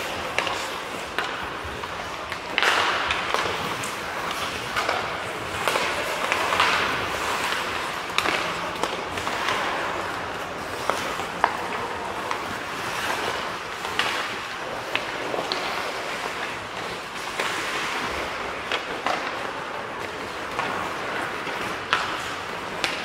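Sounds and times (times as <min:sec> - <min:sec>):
hockey sticks clacking on puck: 0:00.0 - 0:23.0
ice skates scraping on ice: 0:00.0 - 0:23.0.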